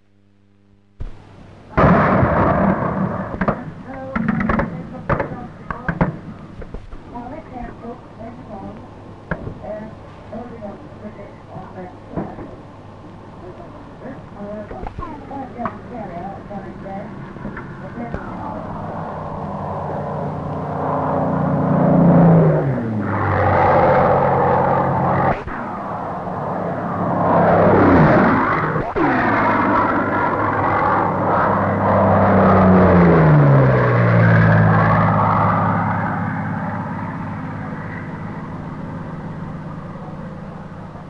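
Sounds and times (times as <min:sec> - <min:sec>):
propeller plane engines passing: 0:01.6 - 0:41.0.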